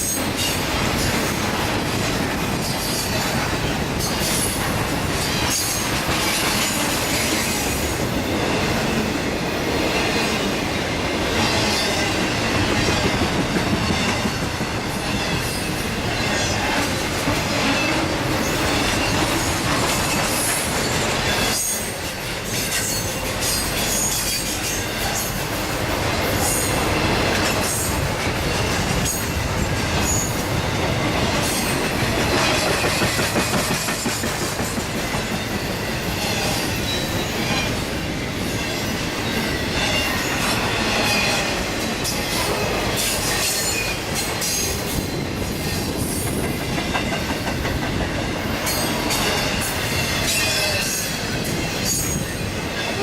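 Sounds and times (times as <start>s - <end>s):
railroad cars rolling past: 0.0s - 53.0s.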